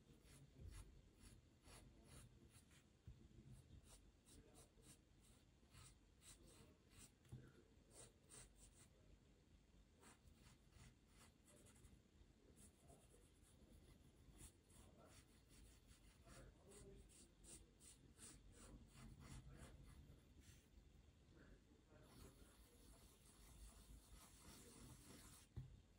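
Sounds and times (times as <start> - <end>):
pencil sketching strokes on paper: 0.0 - 2.9, 3.6 - 8.9, 10.0 - 11.9, 12.5 - 20.7, 21.9 - 25.6.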